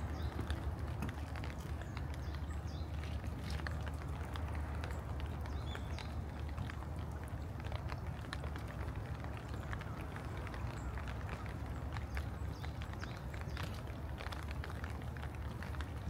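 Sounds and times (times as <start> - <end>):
footsteps on wet path: 0.0 - 16.0
raindrops ticking: 0.0 - 16.0.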